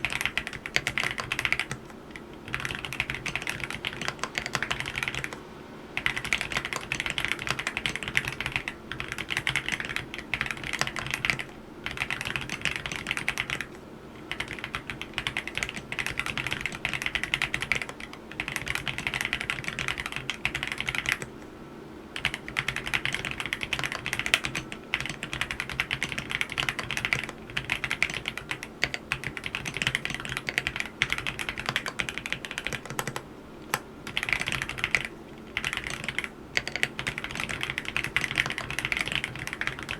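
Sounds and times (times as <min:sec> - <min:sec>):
mechanical keyboard typing: 0:00.0 - 0:05.4, 0:06.0 - 0:21.3, 0:22.2 - 0:39.9.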